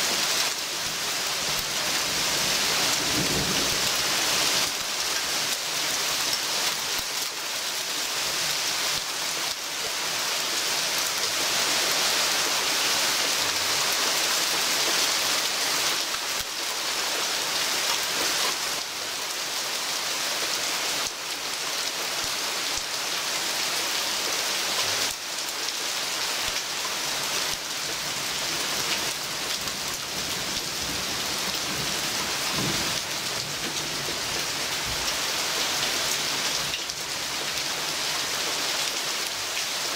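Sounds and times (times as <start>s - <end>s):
heavy rain through foliage: 0.0s - 39.9s.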